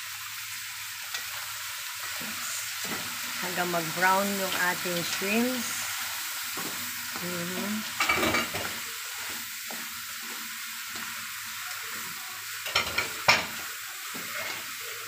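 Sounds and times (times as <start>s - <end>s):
food sizzling in butter: 0.0s - 15.0s.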